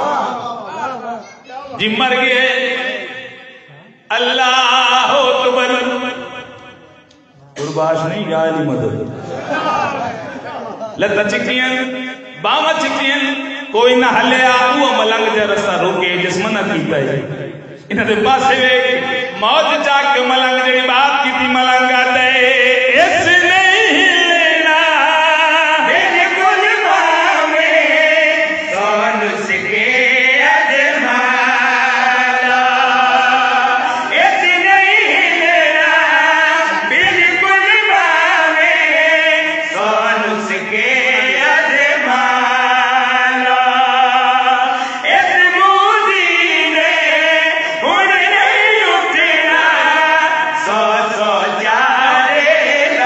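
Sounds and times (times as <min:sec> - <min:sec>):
men chanting through loudspeakers: 0:00.0 - 0:01.0, 0:01.7 - 0:53.0.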